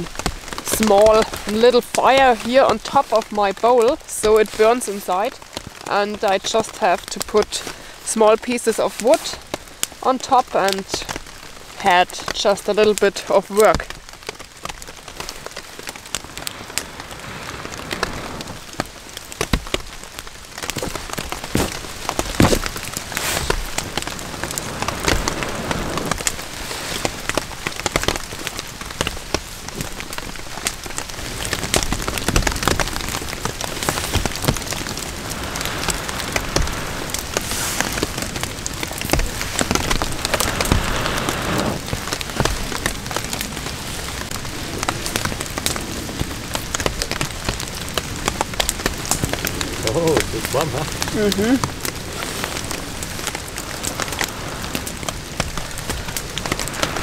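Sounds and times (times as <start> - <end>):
campfire crackling and popping: 0.0 - 57.0
rain pattering: 0.0 - 57.0.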